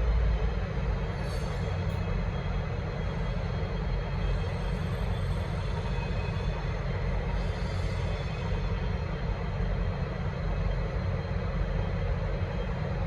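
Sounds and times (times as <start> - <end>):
diesel train passing: 0.0 - 13.0.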